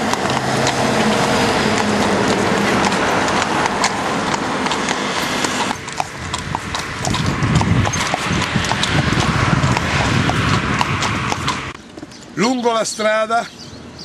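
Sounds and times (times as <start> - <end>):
horse hooves clip-clopping: 0.0 - 12.6.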